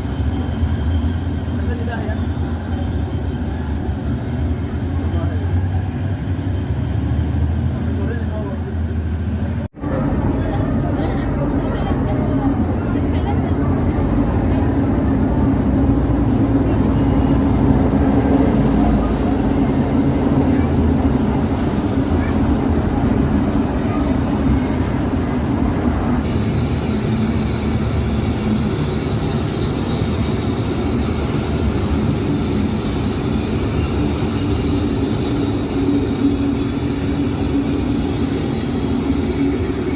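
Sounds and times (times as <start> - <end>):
locomotive diesel engine humming: 0.0 - 39.9.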